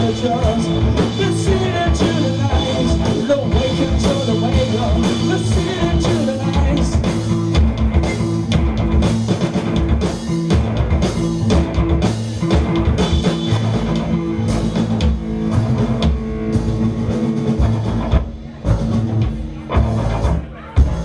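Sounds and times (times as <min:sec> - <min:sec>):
bass guitar: 0:00.0 - 0:21.0
drums: 0:00.0 - 0:21.0
electric guitars: 0:00.0 - 0:21.0.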